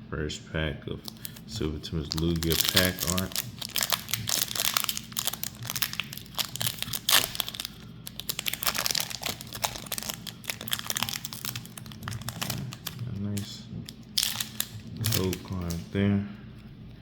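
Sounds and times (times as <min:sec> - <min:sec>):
foil wrapper tearing and crinkling: 0:01.0 - 0:15.8.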